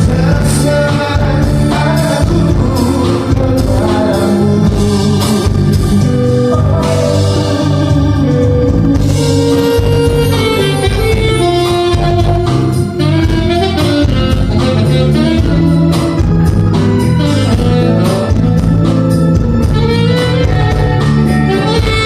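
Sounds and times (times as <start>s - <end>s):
drums keeping a steady beat: 0.0s - 22.0s
live band playing: 0.0s - 22.0s.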